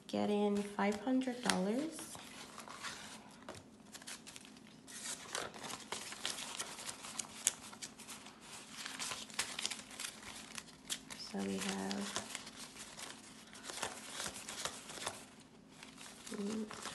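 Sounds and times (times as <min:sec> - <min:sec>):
banknotes rustling as counted: 0:00.4 - 0:16.9.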